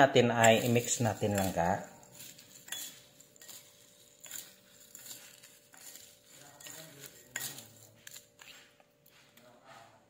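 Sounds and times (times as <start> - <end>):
dried shrimp rustling and crackling: 0.2 - 9.9.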